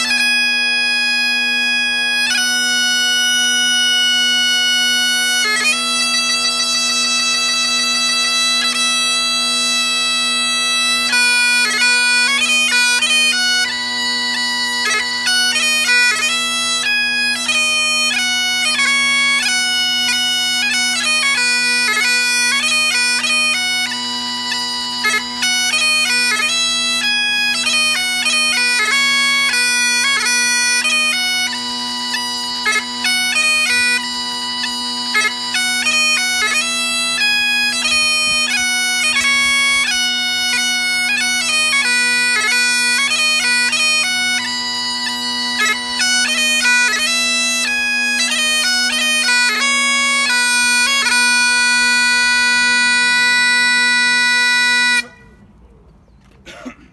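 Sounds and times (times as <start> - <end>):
bagpipes playing a tune: 0.0 - 55.3.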